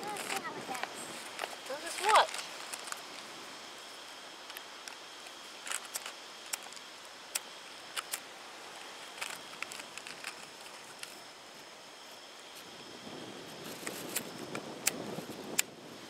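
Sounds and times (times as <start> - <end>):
faint steady high tones: 0.0 - 13.6.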